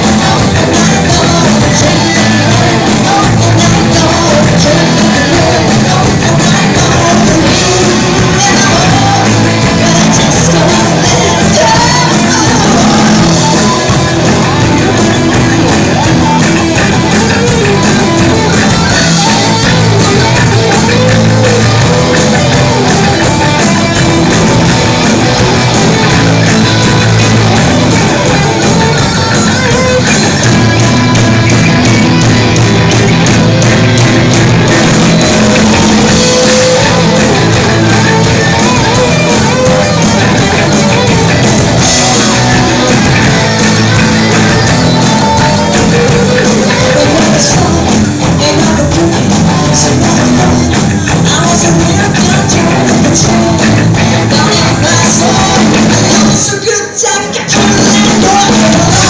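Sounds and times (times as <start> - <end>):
electric guitar: 0.0 - 59.0
rock band playing live: 0.0 - 59.0.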